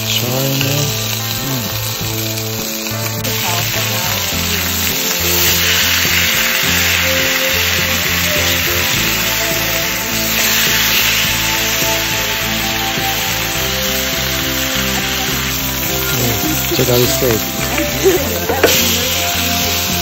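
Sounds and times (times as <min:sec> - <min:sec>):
background music with bass line: 0:00.0 - 0:20.0
steak sizzling: 0:00.0 - 0:20.0.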